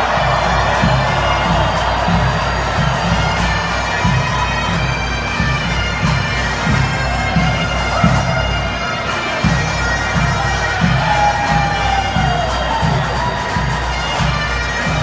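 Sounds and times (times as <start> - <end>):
bagpipes playing: 0.0 - 15.0.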